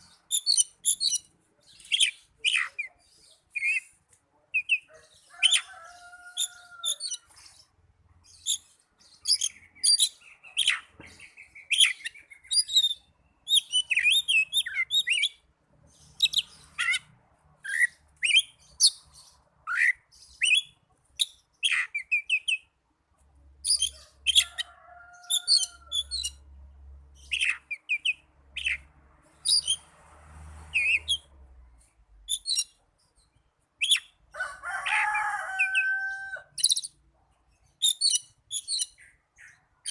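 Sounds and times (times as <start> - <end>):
magpie-robin singing varied song: 0.0 - 5.7, 6.3 - 22.8, 23.5 - 26.5, 27.1 - 29.9, 30.7 - 35.8, 36.5 - 39.9.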